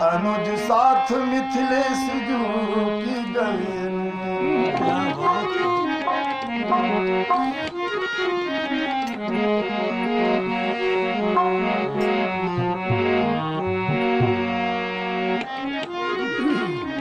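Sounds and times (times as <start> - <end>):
harmonium melody: 0.0 - 17.0.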